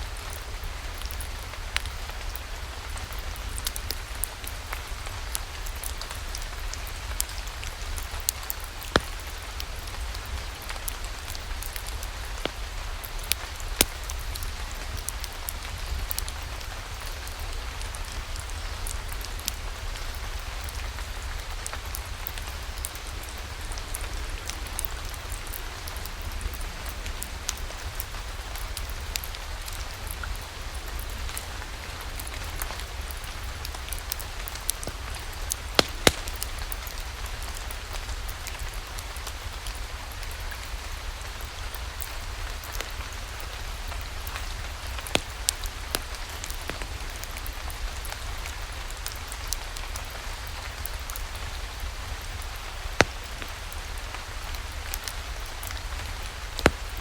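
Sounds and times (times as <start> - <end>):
steady rain: 0.0 - 57.0
wood fire crackling and popping: 0.2 - 57.0.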